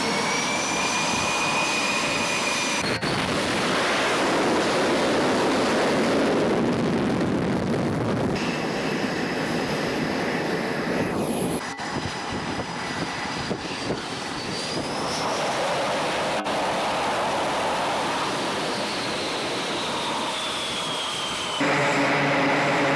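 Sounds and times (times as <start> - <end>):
jet engine rush and whine: 0.0 - 22.9.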